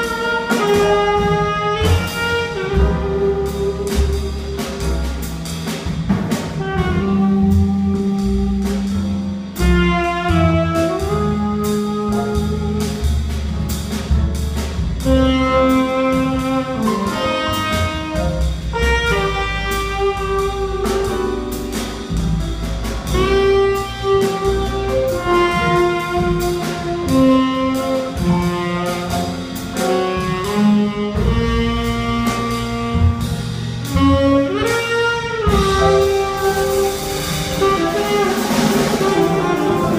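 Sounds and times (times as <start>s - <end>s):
saxophone melody: 0.0s - 4.8s, 6.6s - 8.9s, 9.5s - 13.0s, 15.0s - 21.7s, 23.1s - 39.9s
drum kit with cymbals: 0.0s - 39.9s
upright bass: 0.0s - 39.9s.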